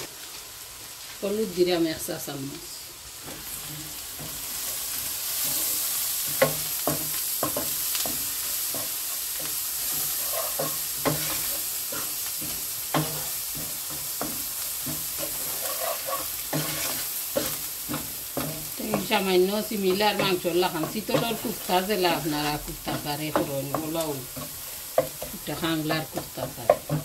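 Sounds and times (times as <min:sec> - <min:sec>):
food sizzling in oil: 0:00.0 - 0:27.0
spatula scraping and tapping pan: 0:03.2 - 0:27.0.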